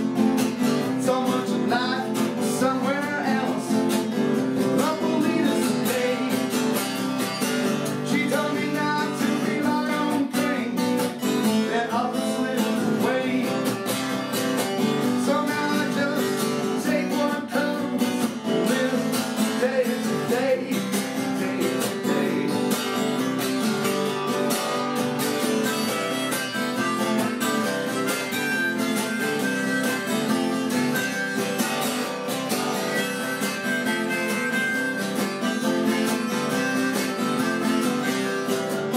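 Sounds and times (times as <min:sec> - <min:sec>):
acoustic guitar strummed: 0:00.0 - 0:38.9
harmonica: 0:00.0 - 0:38.9.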